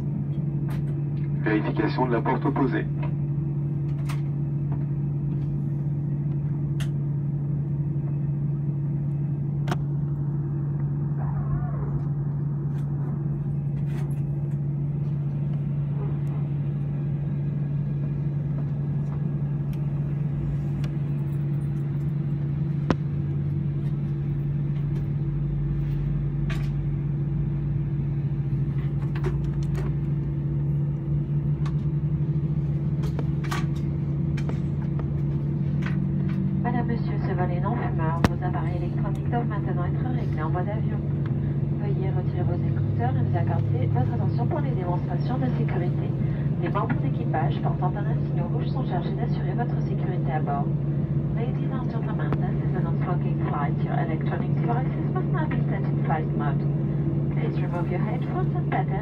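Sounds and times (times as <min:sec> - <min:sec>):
aircraft cabin hum: 0:00.0 - 0:59.0
deep rumble: 0:00.0 - 0:59.0.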